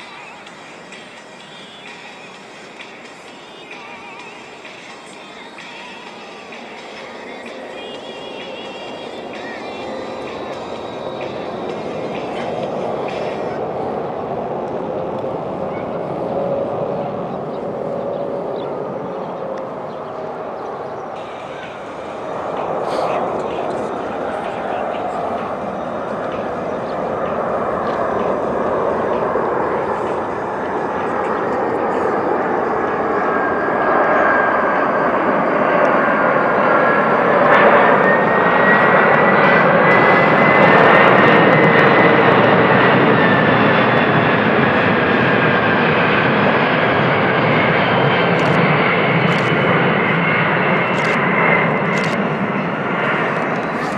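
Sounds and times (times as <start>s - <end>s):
high engine whine: 0.0s - 53.9s
jet engines passing by: 0.0s - 53.9s.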